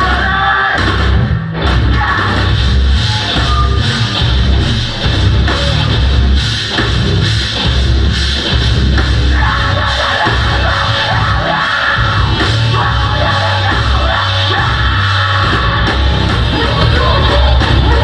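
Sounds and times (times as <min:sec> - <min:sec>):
heavy rock band playing live: 0:00.0 - 0:18.0
yelled vocals: 0:00.0 - 0:18.0.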